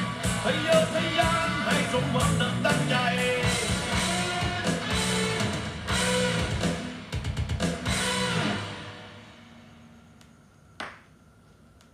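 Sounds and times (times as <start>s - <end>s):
rock music with guitar and drums: 0.0s - 9.7s
faint record hiss: 0.0s - 11.9s.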